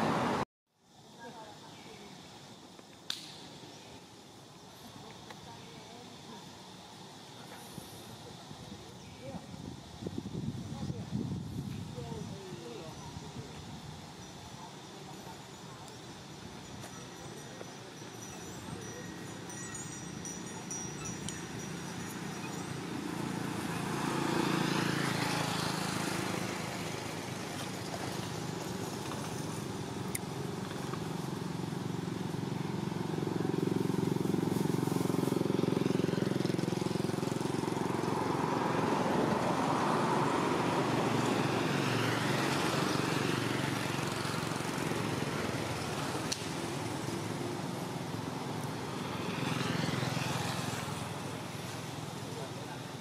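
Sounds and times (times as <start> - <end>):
passing vehicle engines: 0.0 - 0.4, 3.1 - 53.0.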